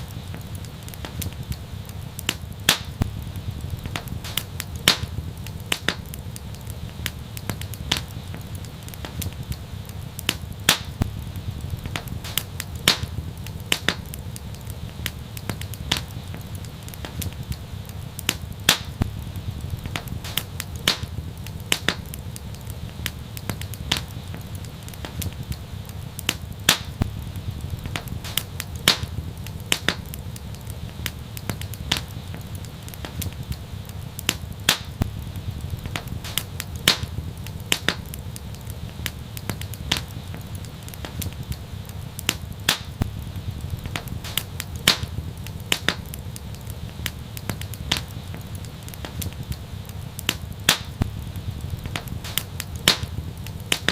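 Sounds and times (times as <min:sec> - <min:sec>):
fire low rumble: 0:00.0 - 0:53.9
fire popping and snapping: 0:00.0 - 0:53.9.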